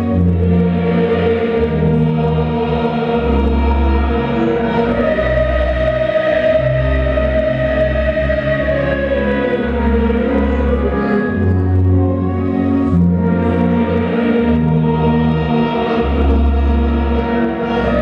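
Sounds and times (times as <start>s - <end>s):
choir singing chords: 0.0s - 18.0s.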